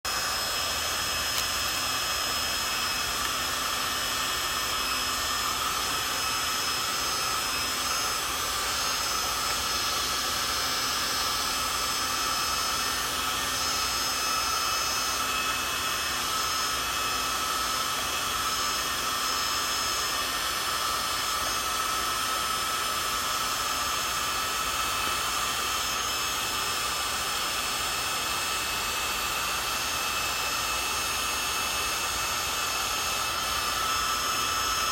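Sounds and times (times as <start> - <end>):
high-speed motor whining: 0.0 - 34.9.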